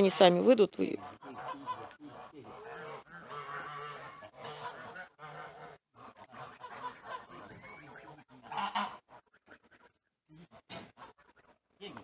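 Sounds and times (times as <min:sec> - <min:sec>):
geese honking and gabbling: 0:00.0 - 0:12.0.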